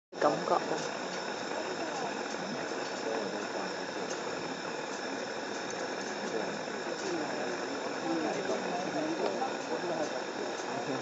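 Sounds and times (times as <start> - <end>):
faint indistinct voices: 0.2 - 11.0.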